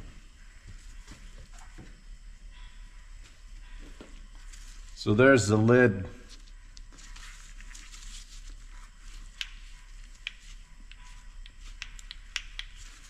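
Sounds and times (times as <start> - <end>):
low hiss and hum: 0.0 - 13.0.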